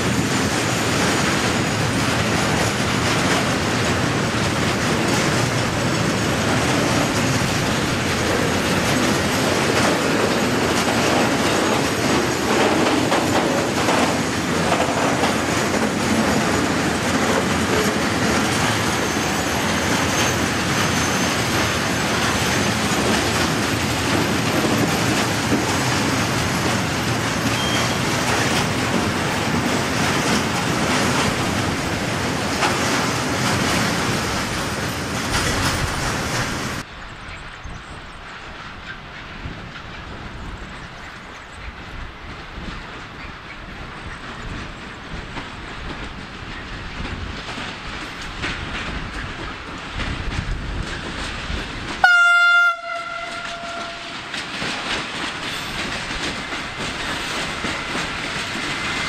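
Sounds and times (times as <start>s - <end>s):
steel wheels rolling on track: 0.0s - 52.1s, 52.8s - 59.0s.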